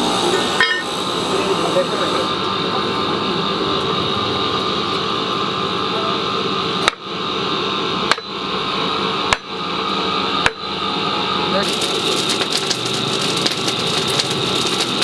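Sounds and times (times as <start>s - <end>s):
hum and hiss: 0.0s - 15.0s.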